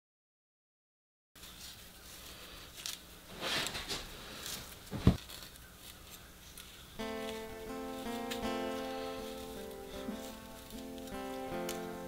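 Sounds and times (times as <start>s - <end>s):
scraping: 1.4s - 12.0s.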